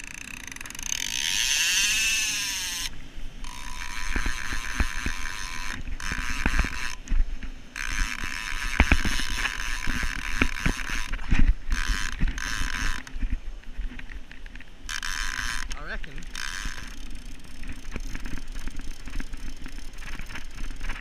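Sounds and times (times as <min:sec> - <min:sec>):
fishing reel buzzing: 0:00.0 - 0:07.1, 0:07.7 - 0:13.3, 0:14.4 - 0:21.0.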